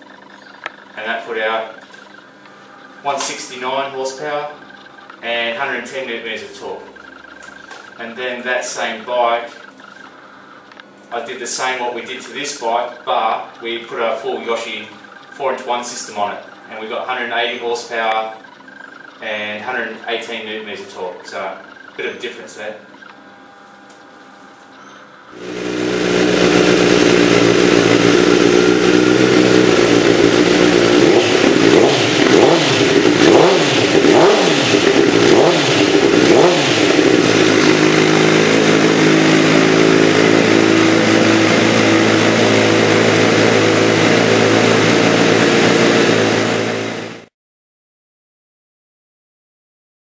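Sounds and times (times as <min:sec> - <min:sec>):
motorcycle engine idling and revving: 0:00.0 - 0:11.0, 0:11.6 - 0:20.4, 0:25.3 - 0:47.3.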